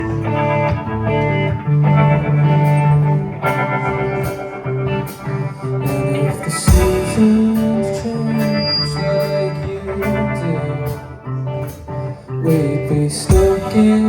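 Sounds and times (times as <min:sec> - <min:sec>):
guitar melody: 0:00.0 - 0:14.0
live band instrumental: 0:00.0 - 0:14.0.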